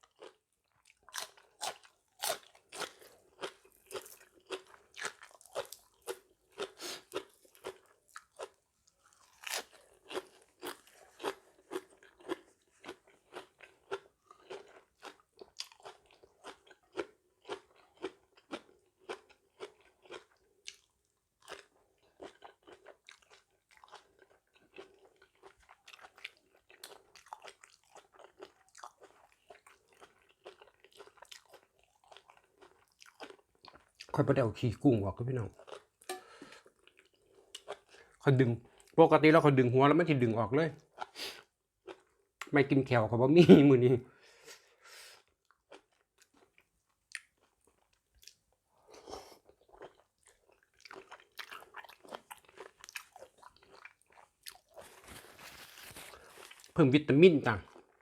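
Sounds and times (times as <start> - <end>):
chewing crunchy vegetables: 0.0 - 39.0, 40.8 - 42.5, 45.2 - 58.0.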